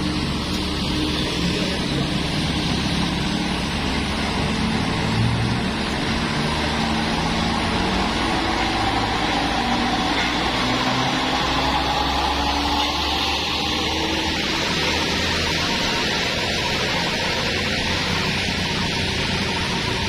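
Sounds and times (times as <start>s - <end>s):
road noise: 0.0s - 20.0s
vehicle engines running: 0.0s - 20.0s.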